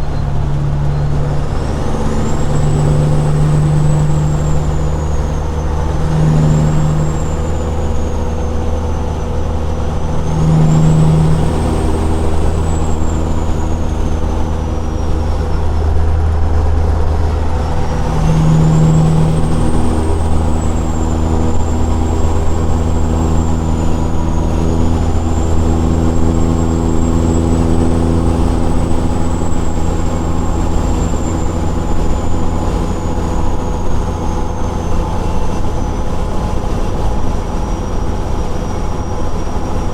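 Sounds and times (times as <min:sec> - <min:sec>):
diesel truck engine drone: 0:00.0 - 0:39.9
high turbo whistle: 0:00.0 - 0:39.9.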